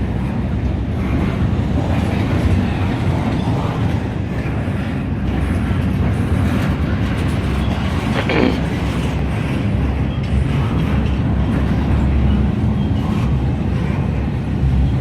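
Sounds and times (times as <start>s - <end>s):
freight train wheels on track: 0.0s - 15.0s.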